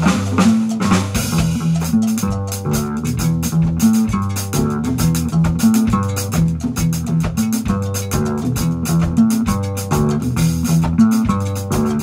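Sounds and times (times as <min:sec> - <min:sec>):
drum kit cymbals: 0:00.0 - 0:12.0
electric guitar: 0:00.0 - 0:12.0
hand drums: 0:00.0 - 0:12.0
upright double bass walking line: 0:00.0 - 0:12.0.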